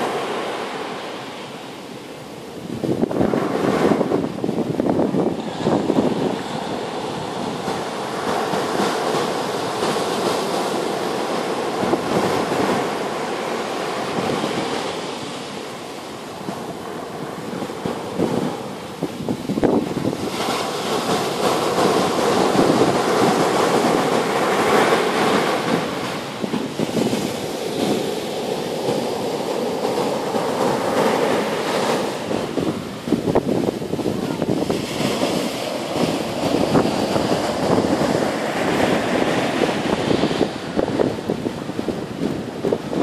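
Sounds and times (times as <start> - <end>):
surf breaking on beach: 0.0 - 43.0
wind buffeting microphone: 0.0 - 43.0.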